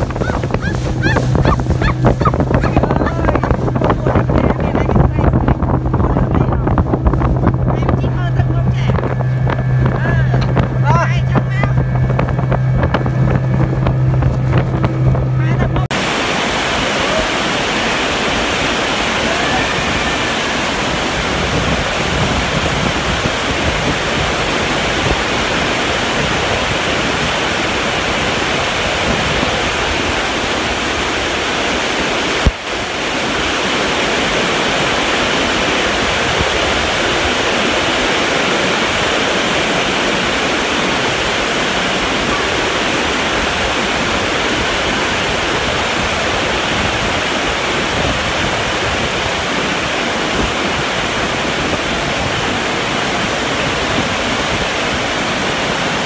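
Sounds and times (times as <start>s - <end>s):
heavy rain pouring: 0.0s - 6.8s, 13.9s - 56.0s.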